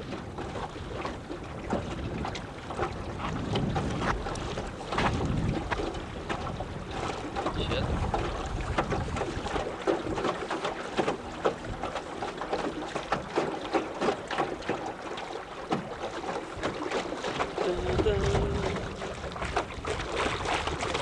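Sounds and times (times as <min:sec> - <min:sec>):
water wash: 0:00.0 - 0:21.0
waves slapping boat hull: 0:00.0 - 0:21.0
wind: 0:00.0 - 0:21.0.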